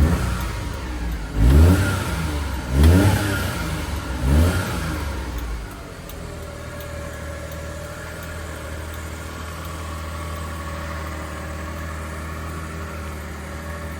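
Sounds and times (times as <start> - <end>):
small truck engine idling: 0.0 - 13.9.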